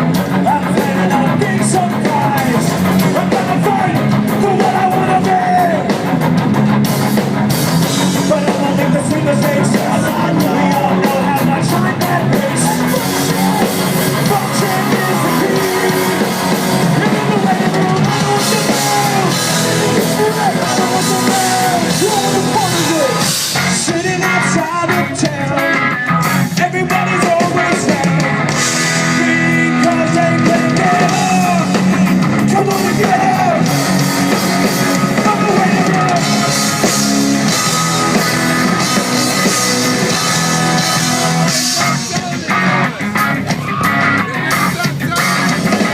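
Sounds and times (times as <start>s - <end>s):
bass guitar: 0.0s - 45.9s
drum kit: 0.0s - 45.9s
electric guitars: 0.0s - 45.9s
person singing: 0.3s - 6.1s, 8.0s - 45.9s.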